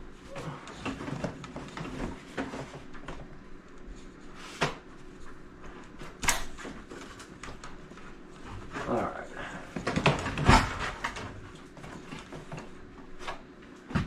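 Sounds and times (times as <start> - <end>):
knocks and scraping in wall: 0.1 - 14.0.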